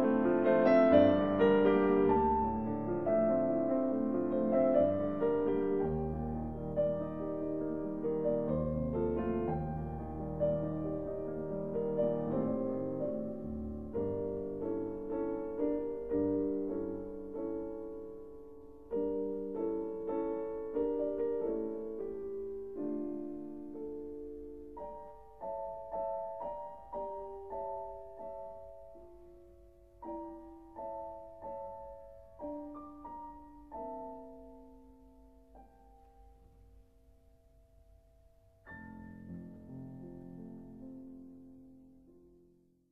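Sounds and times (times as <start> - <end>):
slow gentle piano music: 0.0 - 42.9.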